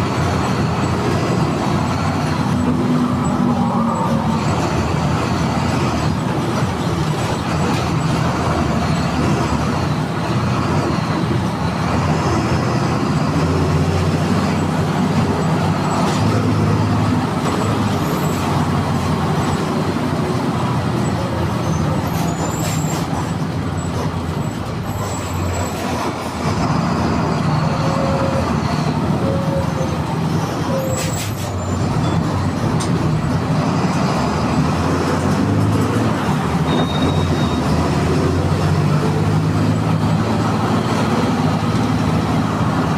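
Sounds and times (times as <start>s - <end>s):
diesel bus engine pulling: 0.0s - 42.9s.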